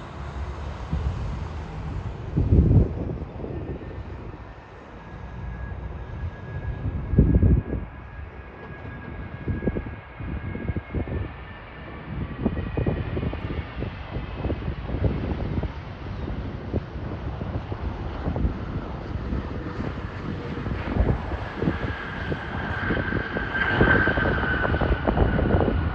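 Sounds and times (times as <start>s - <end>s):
jet engines whining: 0.0s - 25.9s
wind buffeting microphone: 0.0s - 25.9s.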